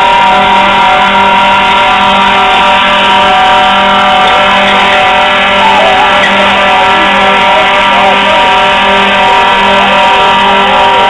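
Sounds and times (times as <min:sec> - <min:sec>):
fire engine running at high revs: 0:00.0 - 0:11.0.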